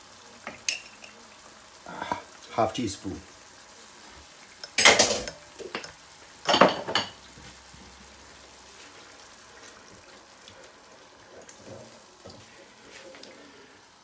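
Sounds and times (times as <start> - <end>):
sauce sizzling in oil: 0.0 - 14.0.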